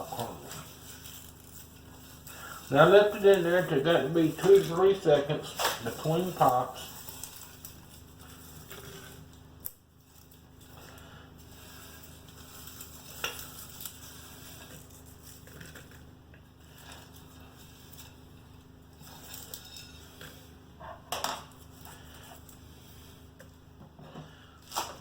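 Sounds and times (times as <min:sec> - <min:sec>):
popcorn rustling on a plate: 0:00.0 - 0:25.0.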